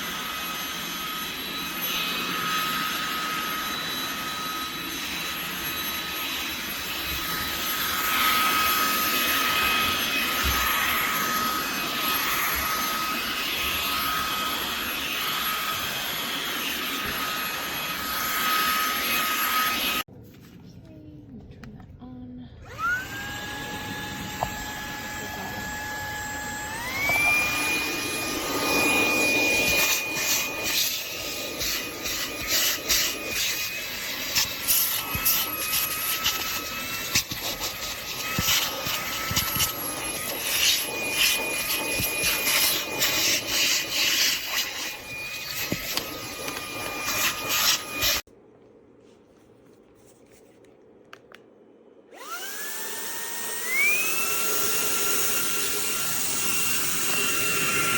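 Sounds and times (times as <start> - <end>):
handheld vacuum whine: 0.0 - 20.1, 22.6 - 48.3, 52.1 - 57.9.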